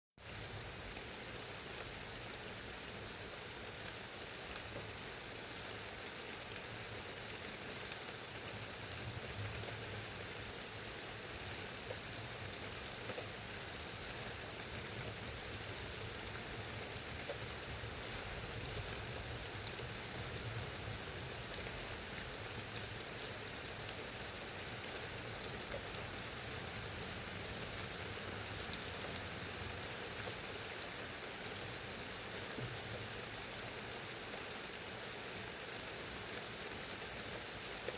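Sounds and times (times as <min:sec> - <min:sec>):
steady rain hiss: 0:00.2 - 0:37.9.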